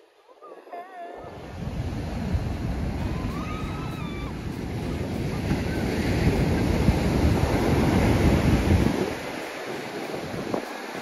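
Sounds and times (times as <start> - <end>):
ocean surf breaking on beach: 0.5 - 11.0
wind buffeting microphone: 1.3 - 11.0.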